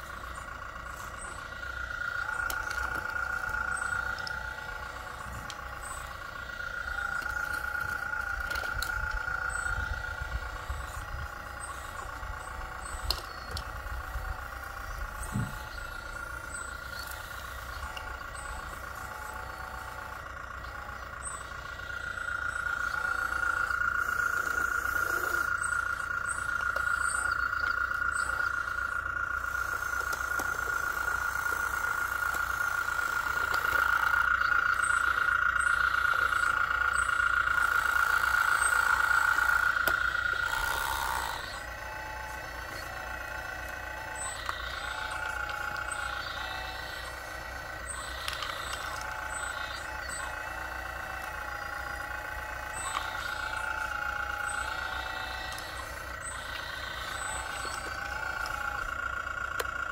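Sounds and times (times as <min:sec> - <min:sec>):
model excavator motor whining: 0:00.0 - 0:59.9.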